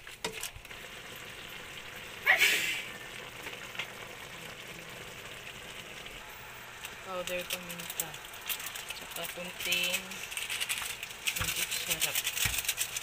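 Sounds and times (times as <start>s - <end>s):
food sizzling in a wok: 0.7s - 12.6s.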